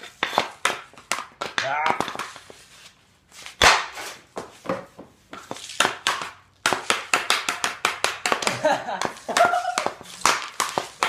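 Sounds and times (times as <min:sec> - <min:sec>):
hockey stick hitting puck: 0:00.0 - 0:02.6, 0:03.4 - 0:11.0.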